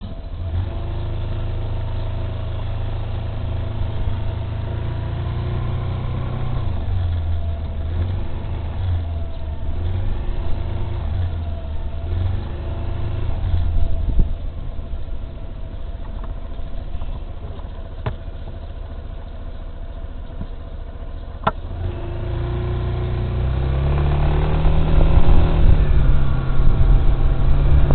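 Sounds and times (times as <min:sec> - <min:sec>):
scooter engine running: 0:00.0 - 0:27.9.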